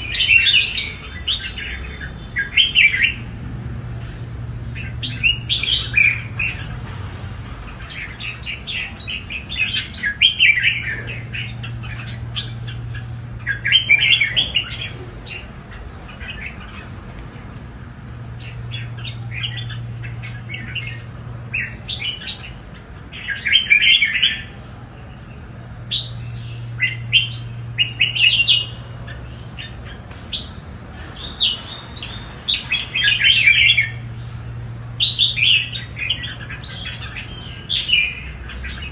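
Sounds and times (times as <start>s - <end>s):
caged birds singing chirping: 0.0s - 38.9s
steady low hum: 0.0s - 38.9s.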